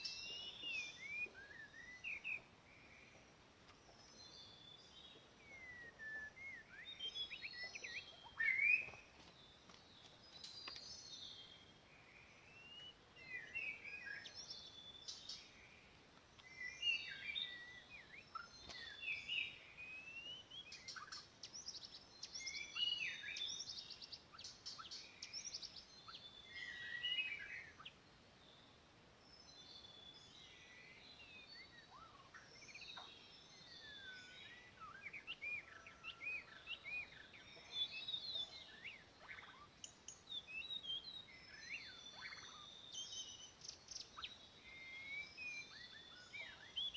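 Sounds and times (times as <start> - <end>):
songbird whistling and chirping: 0.0 - 9.6, 10.3 - 46.9.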